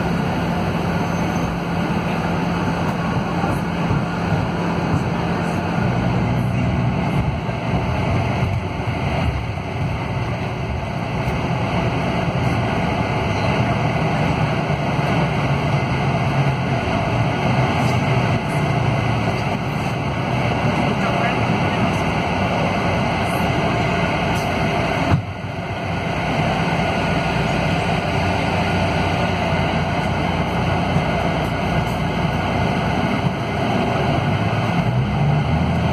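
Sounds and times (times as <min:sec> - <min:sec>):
bus engine accelerating: 0:00.0 - 0:35.9
road noise: 0:00.0 - 0:35.9.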